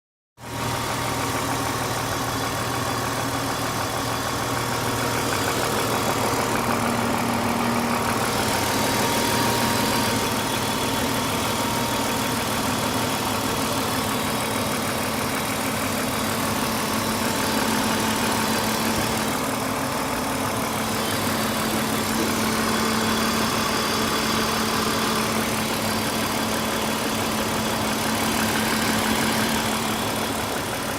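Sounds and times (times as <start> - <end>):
car engine idling: 0.5 - 30.9
engine ticking: 0.6 - 30.9.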